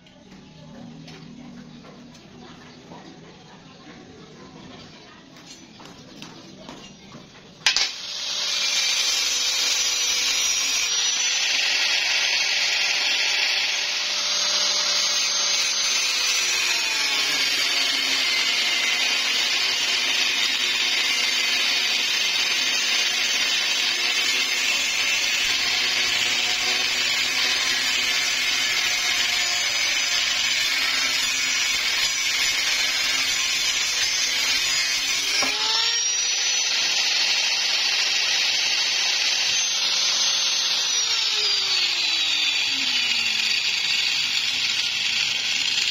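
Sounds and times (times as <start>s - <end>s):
angle grinder whining: 7.6s - 45.9s
disc grinding through steel: 7.6s - 45.9s.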